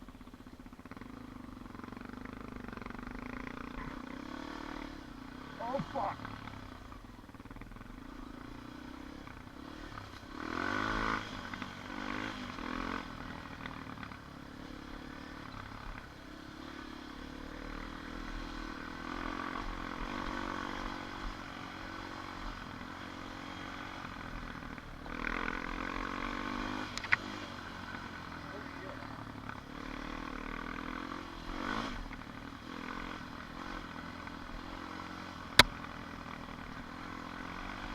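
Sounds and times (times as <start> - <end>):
atv engine running: 0.0 - 37.9.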